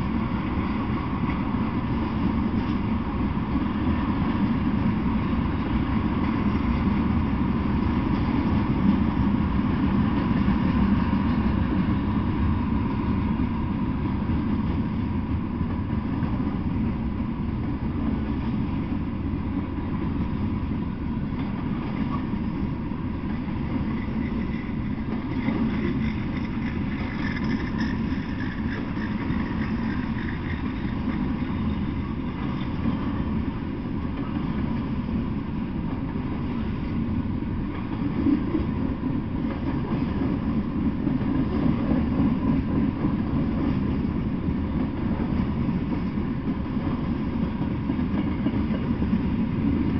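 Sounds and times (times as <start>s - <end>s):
freight train rolling past: 0.0s - 49.9s.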